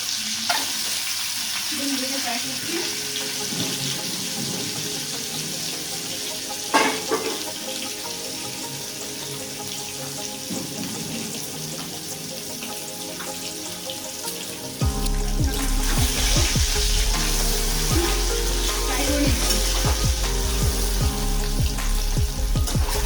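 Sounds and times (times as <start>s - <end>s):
eggs sizzling in hot oil: 0.0s - 23.0s.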